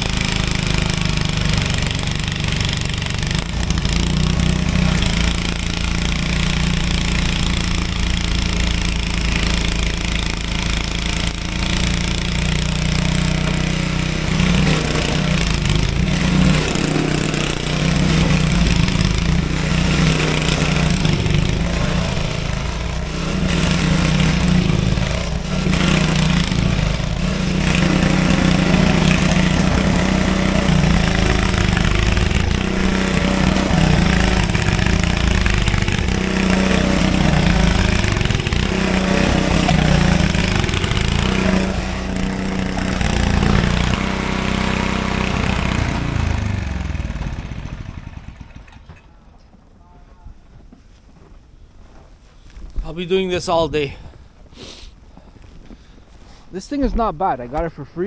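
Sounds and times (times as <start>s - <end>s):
snowblower engine running: 0.0s - 49.2s, 52.8s - 56.0s.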